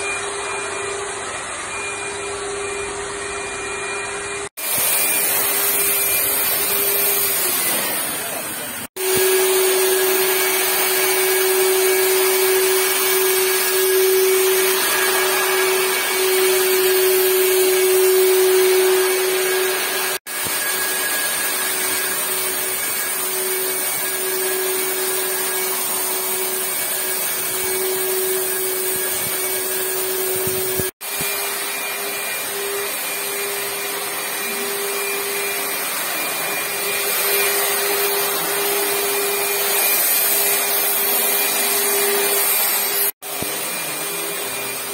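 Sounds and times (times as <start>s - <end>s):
fogger motor whine and air blast: 0.0s - 44.9s.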